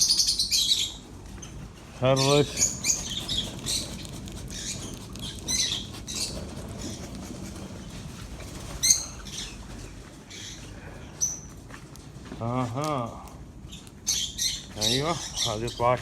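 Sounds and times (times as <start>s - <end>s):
small birds chirping: 0.0s - 11.7s, 12.4s - 16.0s.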